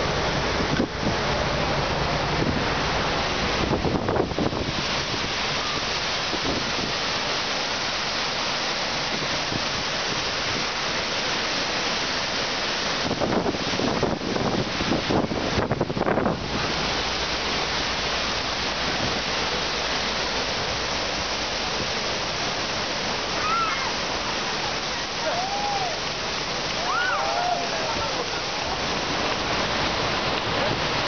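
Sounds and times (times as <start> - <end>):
water rushing over wave surface: 0.0 - 31.0.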